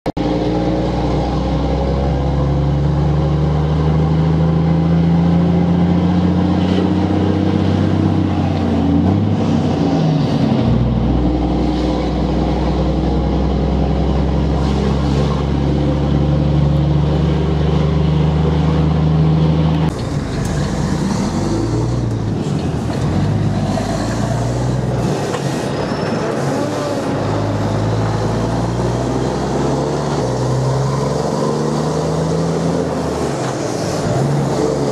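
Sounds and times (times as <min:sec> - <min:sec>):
diesel truck engine droning: 0:00.2 - 0:34.9.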